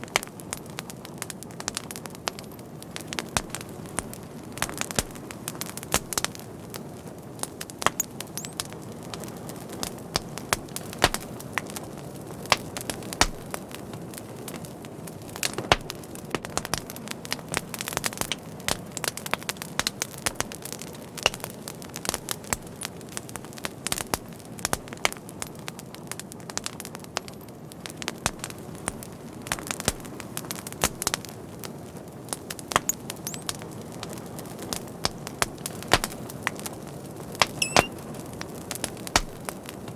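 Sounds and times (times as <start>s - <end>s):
fire low hiss: 0.0s - 39.9s
wood fire crackling and popping: 0.0s - 39.9s.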